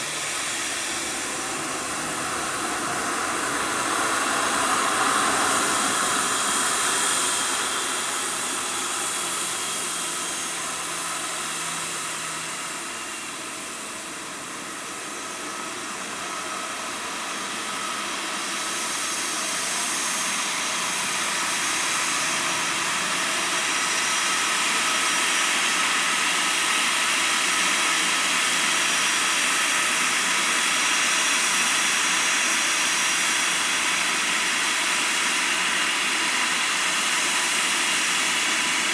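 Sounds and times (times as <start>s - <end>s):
jet engines running with high whine: 0.0s - 38.9s.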